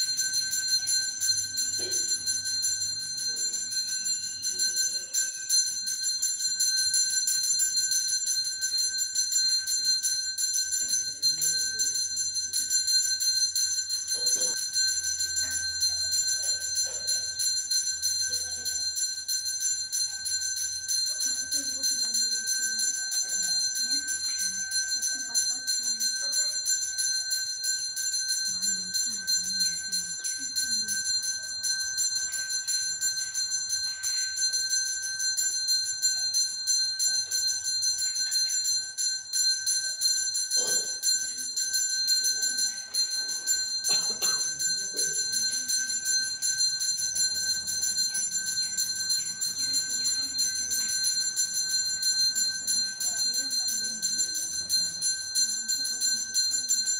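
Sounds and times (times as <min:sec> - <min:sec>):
temple bells ringing: 0:00.0 - 0:56.9.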